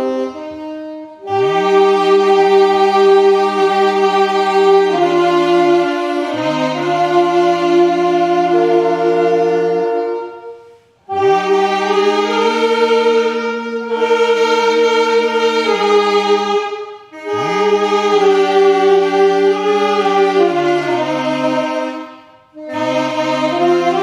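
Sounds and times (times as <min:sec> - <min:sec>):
choir singing a hymn: 0:01.2 - 0:24.0.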